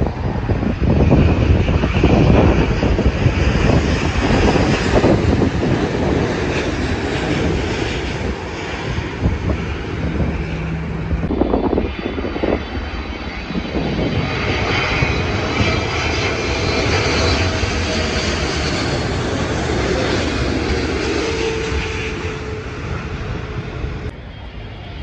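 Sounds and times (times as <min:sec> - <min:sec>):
jet airliner engine noise: 0:00.0 - 0:25.0.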